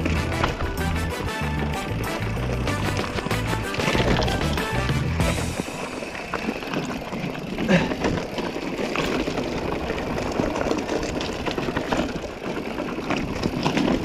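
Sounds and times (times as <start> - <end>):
bike frame rattling: 0.0 - 14.0
bike tyres crunching on stones: 0.0 - 14.0.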